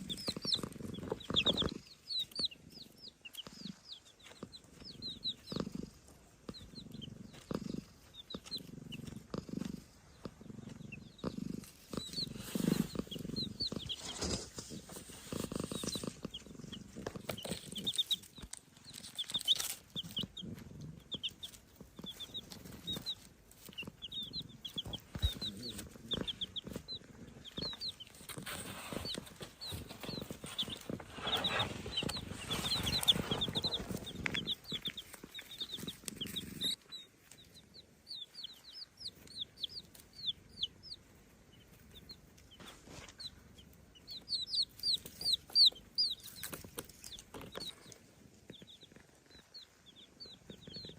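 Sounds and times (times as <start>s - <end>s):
baby chicks peeping: 0.0s - 50.9s.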